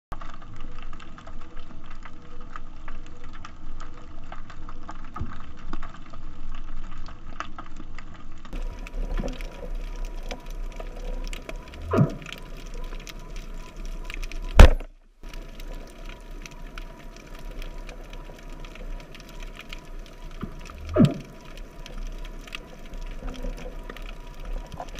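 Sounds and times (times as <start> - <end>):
dense underwater crackle: 0.1 - 24.9.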